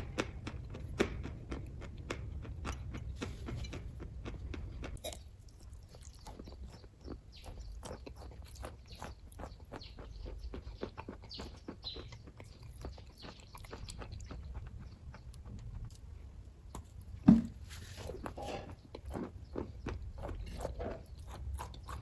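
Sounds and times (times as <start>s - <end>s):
wet mouth chewing clicks: 0.0s - 17.1s, 18.1s - 22.0s.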